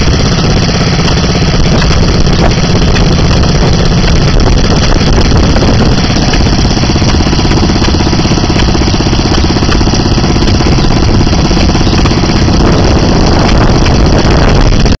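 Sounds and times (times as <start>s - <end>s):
fire pump engine running: 0.0s - 15.0s.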